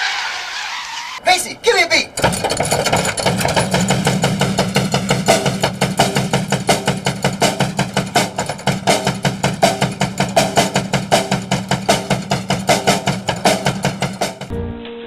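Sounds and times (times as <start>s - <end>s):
fast percussive beat: 2.0s - 14.5s.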